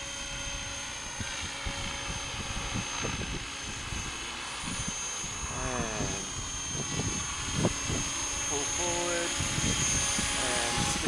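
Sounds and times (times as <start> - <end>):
rc helicopter motor whine: 0.0 - 11.0
wind rumbling on microphone: 0.0 - 11.0.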